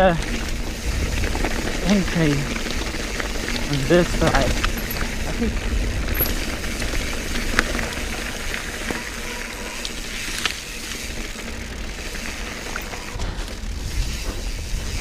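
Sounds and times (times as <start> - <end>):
bike clicks and rattles: 0.0 - 15.0
bike tyres on dirt: 0.0 - 15.0
wind rumbling on microphone: 0.0 - 15.0.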